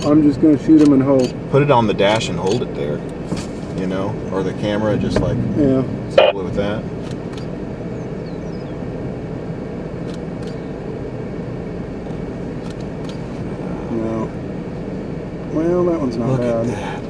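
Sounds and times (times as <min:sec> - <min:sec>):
car engine rumble inside car: 0:00.0 - 0:17.0.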